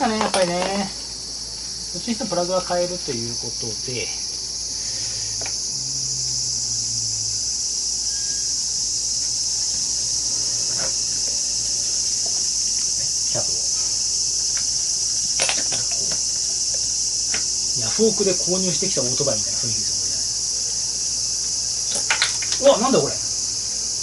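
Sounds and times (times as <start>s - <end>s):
insects shrilling chorus: 0.0s - 24.0s.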